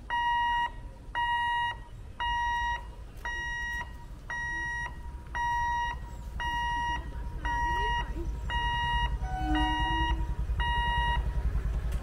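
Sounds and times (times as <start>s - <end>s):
level crossing warning beeps: 0.0s - 11.4s.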